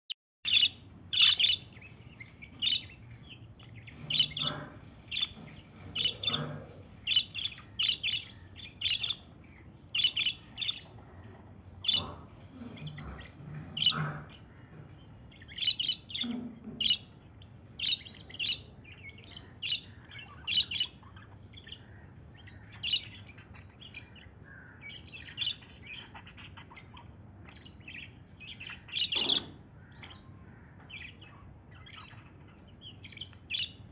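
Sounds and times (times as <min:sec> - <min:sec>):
lovebirds chirping: 0:00.5 - 0:33.9.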